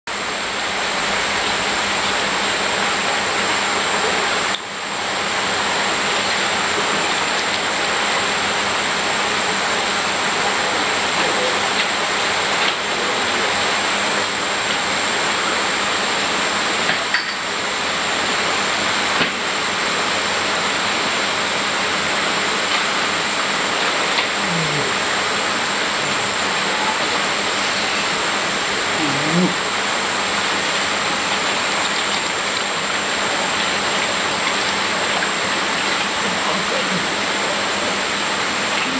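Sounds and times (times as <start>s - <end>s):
water rushing and splashing: 0.2s - 38.9s.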